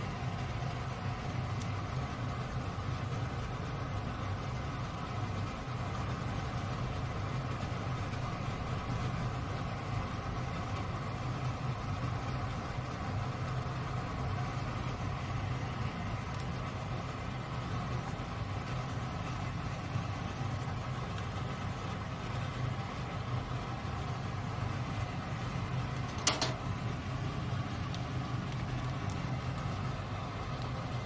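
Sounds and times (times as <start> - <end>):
low kitchen hum: 0.0 - 31.0.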